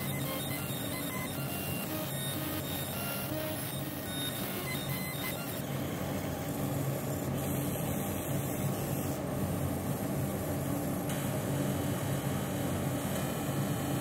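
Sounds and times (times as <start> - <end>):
laser machine humming and hissing: 0.0 - 14.0.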